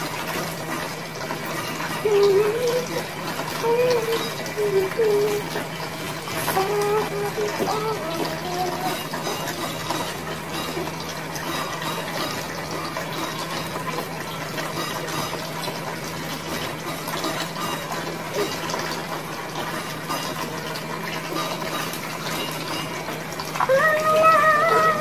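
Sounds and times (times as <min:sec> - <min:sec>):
running water splashing: 0:00.0 - 0:25.0.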